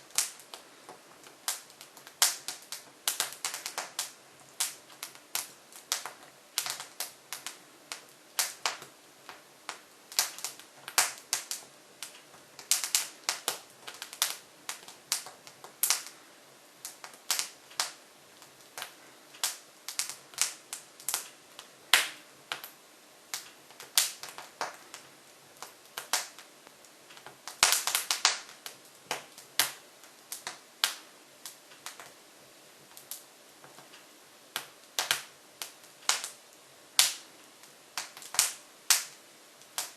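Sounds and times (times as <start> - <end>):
logs crackling and popping: 0.0 - 32.2, 32.8 - 39.9.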